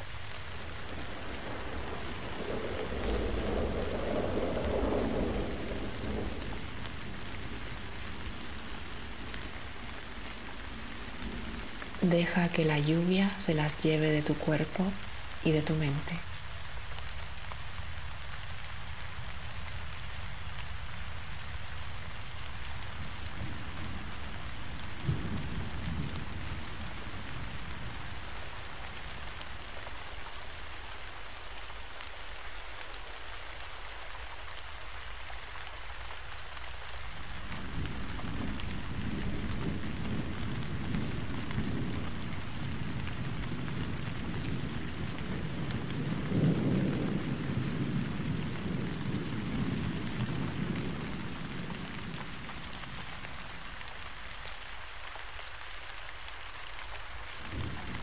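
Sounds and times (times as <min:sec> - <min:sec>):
thunder rumbling: 0:00.0 - 0:31.6, 0:34.2 - 0:54.3, 0:57.0 - 0:58.0
rain falling: 0:00.0 - 0:58.0.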